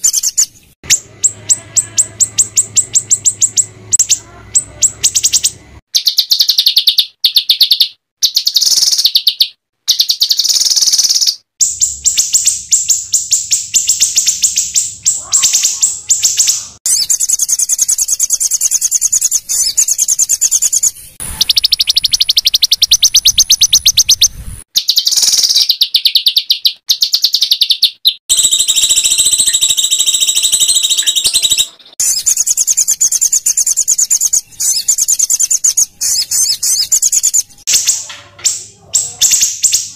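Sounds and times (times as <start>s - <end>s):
songbirds chattering trills: 0.0s - 39.9s.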